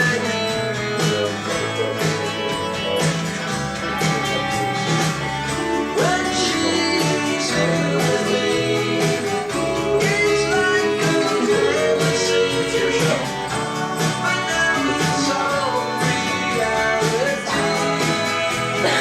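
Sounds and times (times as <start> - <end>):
person singing: 0.0 - 3.2, 3.8 - 19.0
bass line: 0.0 - 19.0
guitar: 0.0 - 19.0
rock song playing: 0.0 - 19.0.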